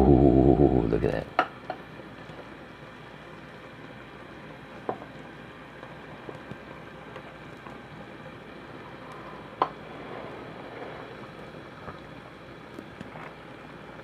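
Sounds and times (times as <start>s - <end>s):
broth boiling and bubbling: 0.0s - 14.0s.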